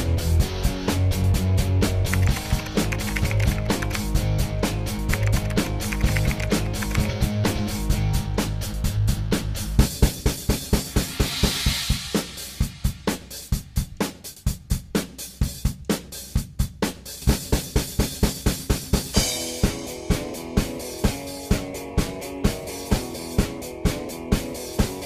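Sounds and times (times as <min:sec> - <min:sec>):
fast drum-kit beat: 0:01.8 - 0:25.0.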